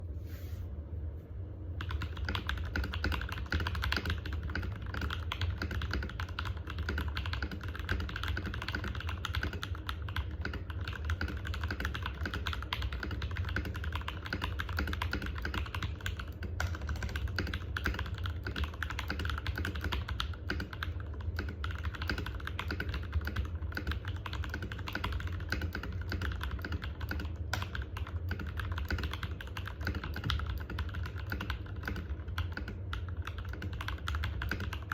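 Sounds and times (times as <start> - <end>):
steady low hum: 0.0 - 34.9
mechanical keyboard typing: 1.8 - 34.9.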